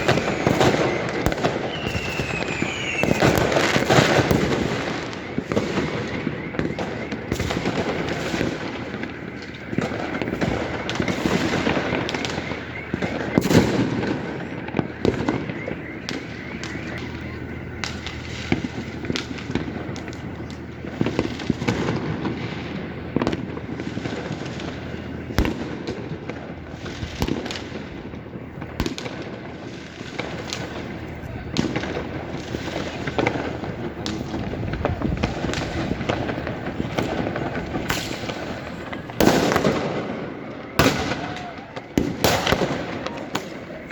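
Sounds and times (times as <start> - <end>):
firecrackers crackling: 0.0 - 43.9
loud firework bangs: 0.0 - 43.9.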